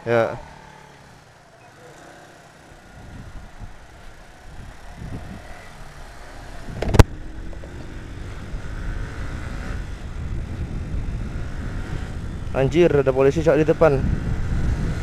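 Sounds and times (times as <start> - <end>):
motorcycle engine: 0.0 - 15.0
wind rumble: 2.8 - 15.0.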